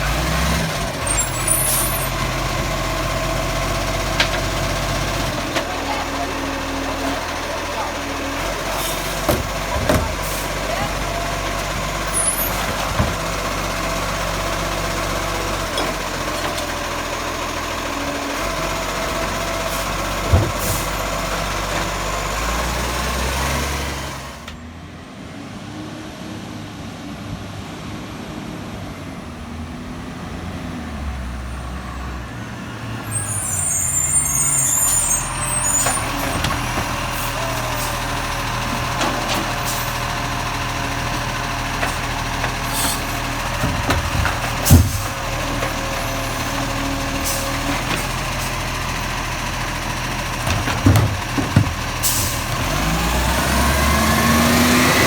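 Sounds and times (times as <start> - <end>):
garbage truck engine running: 0.0 - 24.9, 28.0 - 55.0.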